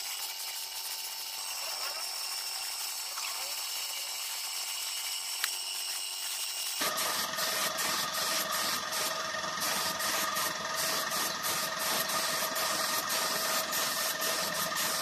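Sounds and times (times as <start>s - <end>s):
air compressor humming: 0.0s - 15.0s
spray gun hissing: 0.0s - 15.0s.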